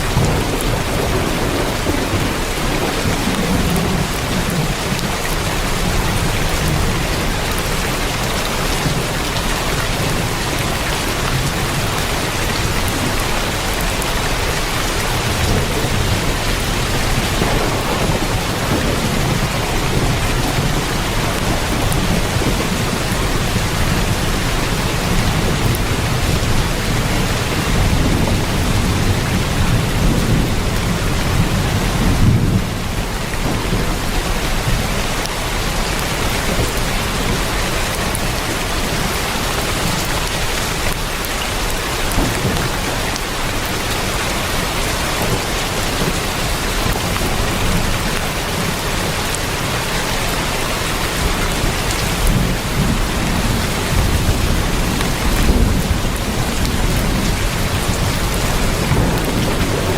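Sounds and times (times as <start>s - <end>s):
low rumble of thunder: 0.0s - 50.3s, 51.0s - 59.9s
heavy rain on a tin roof: 0.0s - 59.9s.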